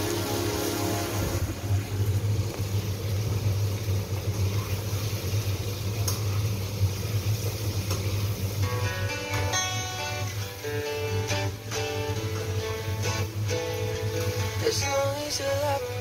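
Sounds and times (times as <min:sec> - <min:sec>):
low stove hum: 0:00.0 - 0:16.0.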